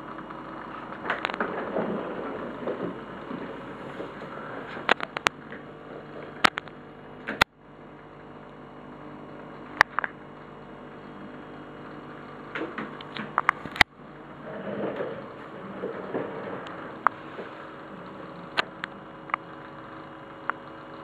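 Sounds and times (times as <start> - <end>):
aquarium air pump humming: 0.0 - 21.0.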